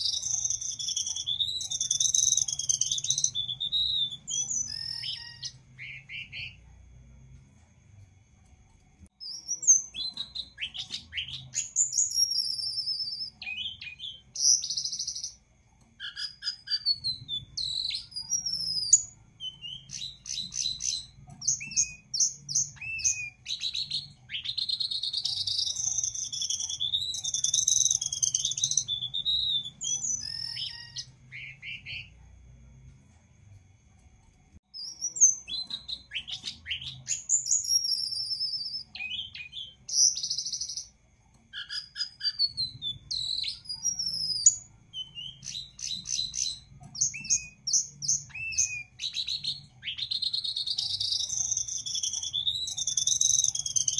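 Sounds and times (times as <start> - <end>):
songbird trilling: 0.0 - 6.6, 9.2 - 15.4, 16.0 - 32.2, 34.8 - 40.9, 41.6 - 53.9.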